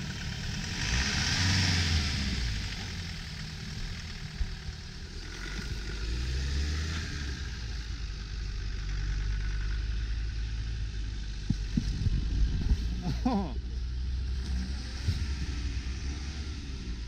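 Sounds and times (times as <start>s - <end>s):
truck engine low rumble: 0.0s - 17.0s.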